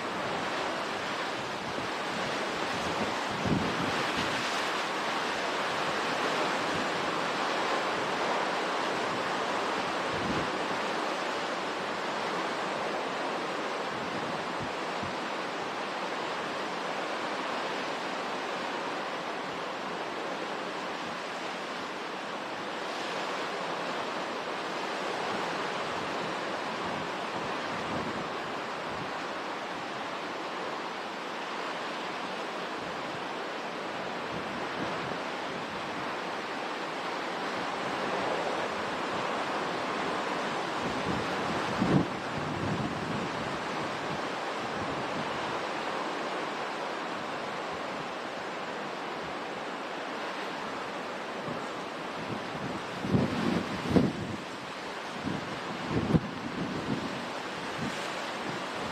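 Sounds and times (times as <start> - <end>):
strong wind and heavy rain: 0.0 - 58.9.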